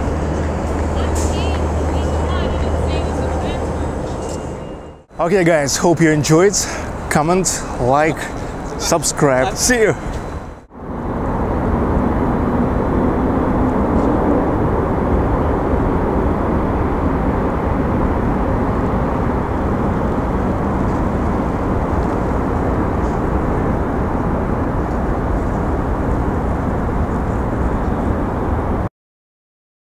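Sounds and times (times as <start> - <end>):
low rumbling vehicle noise: 0.0 - 28.9.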